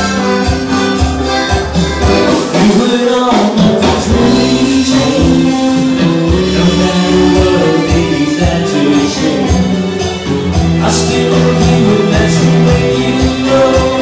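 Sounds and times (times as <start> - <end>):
live latin band playing: 0.0 - 14.0
steady drum beat: 0.0 - 14.0
person singing: 1.2 - 14.0.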